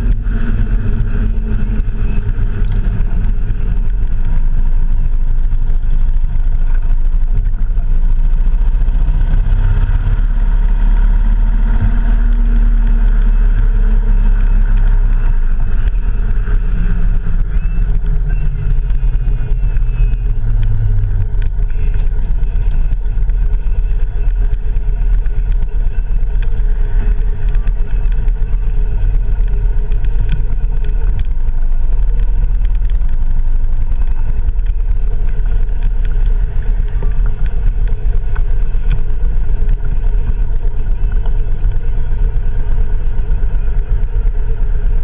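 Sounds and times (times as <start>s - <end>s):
road noise: 0.0s - 45.0s
vehicle engine rumble: 0.0s - 45.0s.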